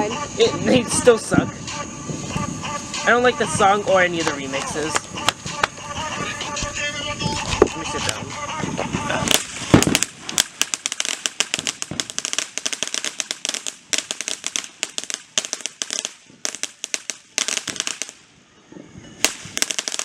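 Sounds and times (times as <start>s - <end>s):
loud firework crack: 0.0s - 18.4s, 19.2s - 20.0s
fireworks crackling: 0.0s - 20.0s.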